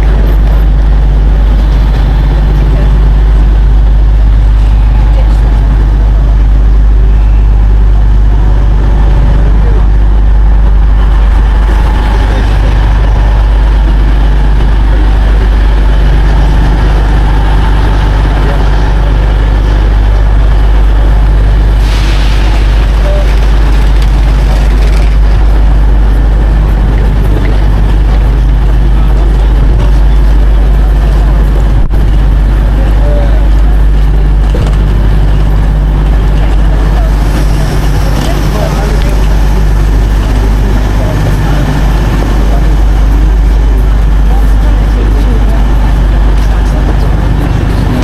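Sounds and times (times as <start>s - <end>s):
diesel train engines idling: 0.0s - 48.0s
faint voices: 0.0s - 48.0s.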